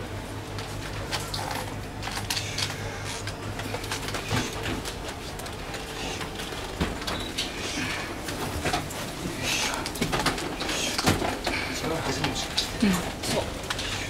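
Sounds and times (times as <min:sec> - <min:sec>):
machinery and ventilation hum: 0:00.0 - 0:14.0.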